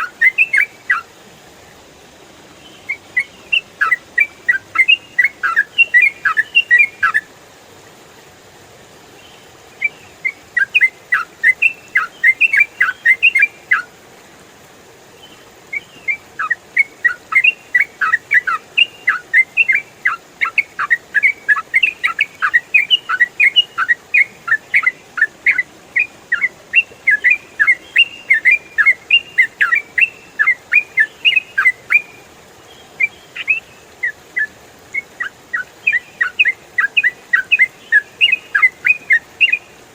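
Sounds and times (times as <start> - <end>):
bird singing chirpy phrases: 0.0 - 1.1, 2.6 - 7.3, 9.2 - 13.9, 15.2 - 39.7.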